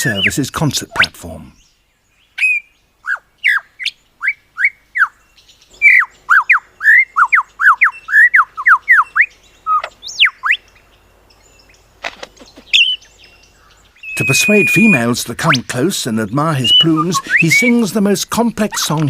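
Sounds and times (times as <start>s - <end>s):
bird singing whistled notes: 0.0s - 11.9s, 12.6s - 17.9s.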